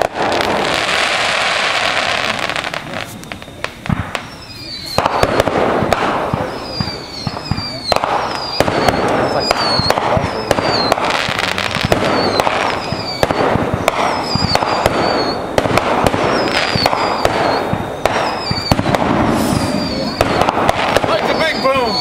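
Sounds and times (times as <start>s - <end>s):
falling whistles: 0.0s - 22.0s
fireworks bangs and pops: 0.0s - 22.0s
fireworks crackling: 0.0s - 22.0s.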